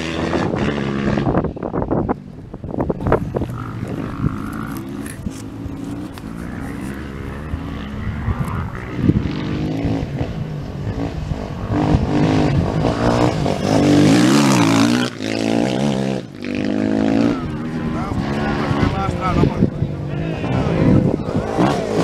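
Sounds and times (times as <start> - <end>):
motorcycle engine revving past: 2.9 - 22.0.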